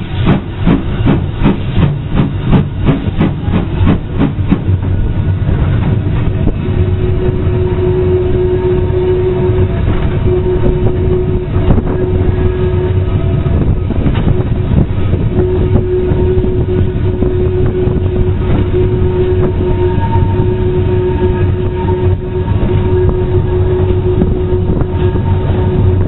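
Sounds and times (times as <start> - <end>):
steady humming tone: 0.0 - 26.0
train wheels rumbling on rails: 0.0 - 26.0.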